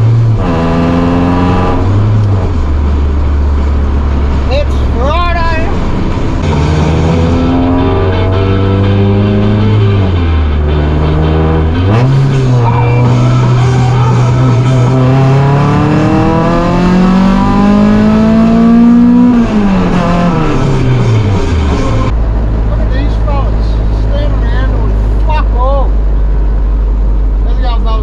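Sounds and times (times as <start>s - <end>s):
race car engine revving: 0.0s - 27.7s.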